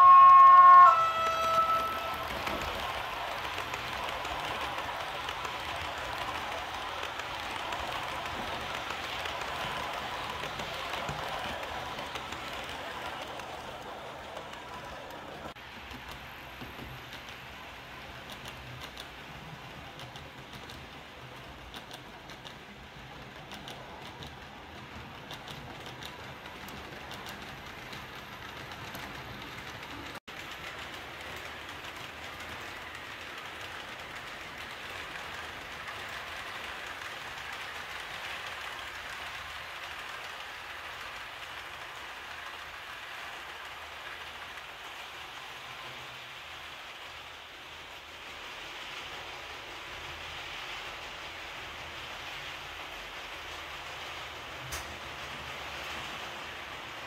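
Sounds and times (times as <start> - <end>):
model train wheels on rails: 0.0 - 57.0.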